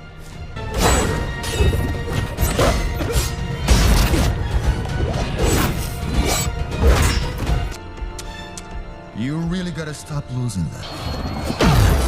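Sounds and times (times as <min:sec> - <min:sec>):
dramatic orchestral score: 0:00.0 - 0:12.0.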